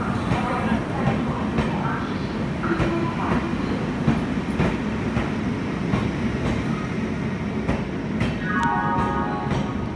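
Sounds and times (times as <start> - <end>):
train coaches rumbling past: 0.0 - 9.9.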